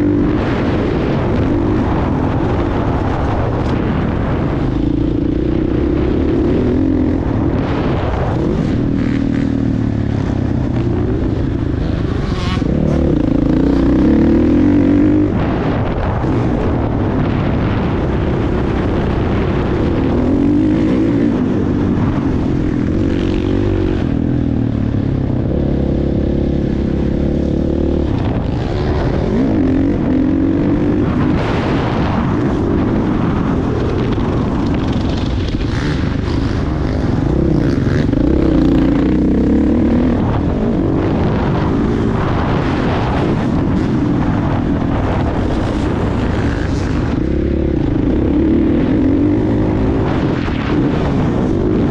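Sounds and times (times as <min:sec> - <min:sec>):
motocross motorcycle engine revving: 0:00.0 - 0:51.9.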